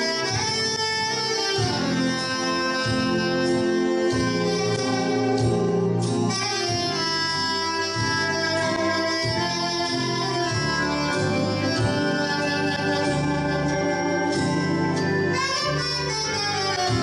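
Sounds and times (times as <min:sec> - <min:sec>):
fusion ensemble music: 0:00.0 - 0:17.0.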